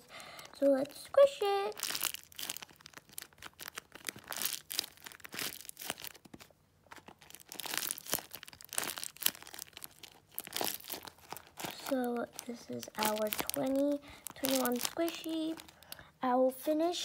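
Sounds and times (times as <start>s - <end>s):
crinkling paper and plastic squishy: 0.0s - 17.0s.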